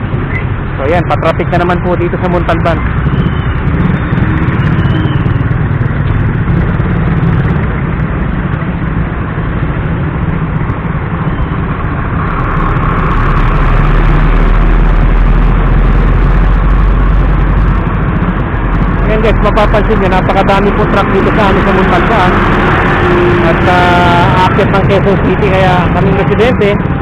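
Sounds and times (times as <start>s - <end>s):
traffic engines rumbling: 0.0s - 27.0s.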